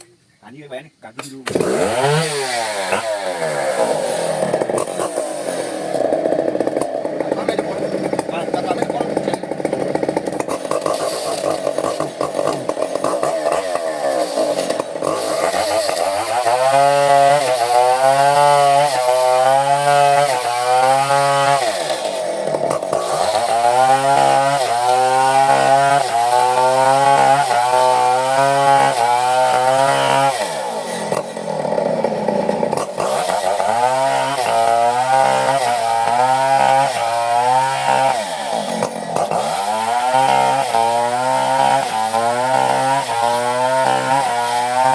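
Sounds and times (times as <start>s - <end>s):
chainsaw cutting wood: 1.2s - 44.9s.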